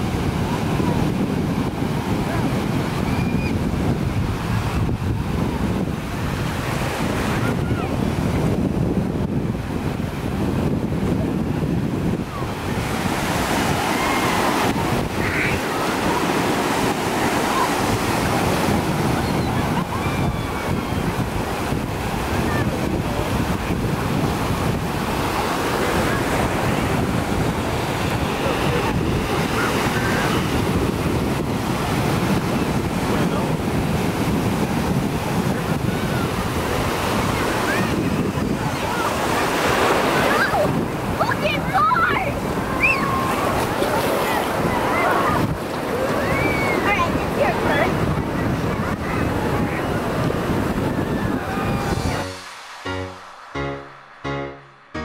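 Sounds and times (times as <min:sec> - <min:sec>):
water washing over sand: 0:00.0 - 0:52.8
ocean surf breaking: 0:00.0 - 0:55.0
wind buffeting microphone: 0:00.0 - 0:55.0.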